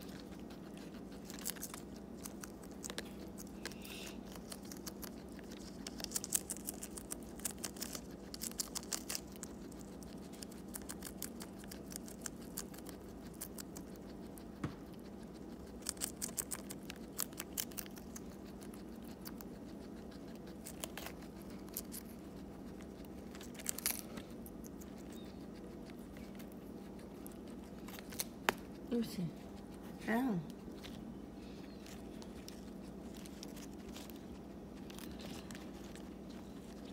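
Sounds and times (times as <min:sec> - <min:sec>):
guinea pig chewing lettuce: 0:00.0 - 0:36.9.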